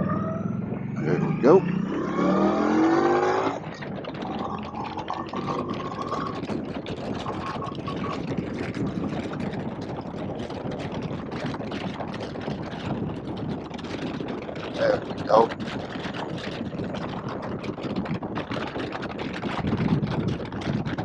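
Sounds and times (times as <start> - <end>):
motorcycle engine accelerating: 0.0 - 21.0
wind rushing on microphone: 0.0 - 21.0.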